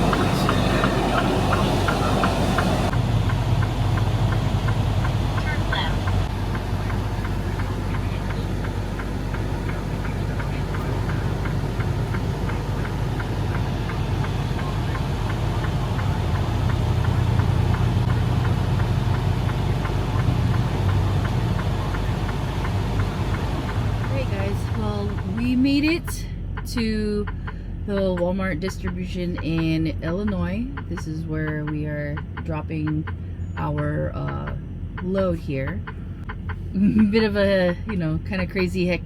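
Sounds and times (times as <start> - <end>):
faint even ticking: 0.0 - 39.0
truck diesel engine droning: 0.0 - 39.0.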